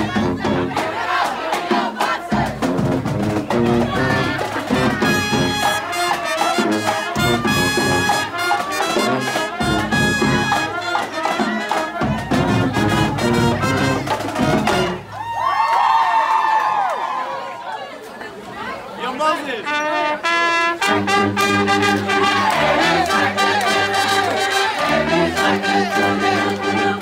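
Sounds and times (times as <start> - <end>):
pep band playing brassy tune: 0.0 - 15.2, 19.3 - 27.0.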